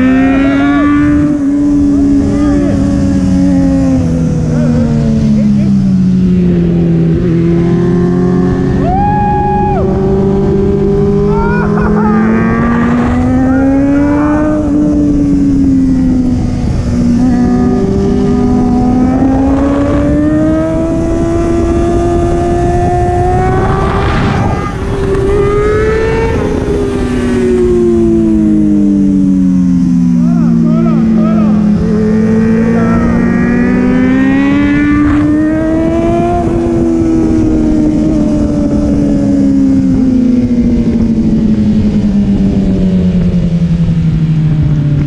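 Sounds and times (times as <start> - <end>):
motorcycle engine revving: 0.0 - 45.0
wind and road rush: 0.0 - 45.0.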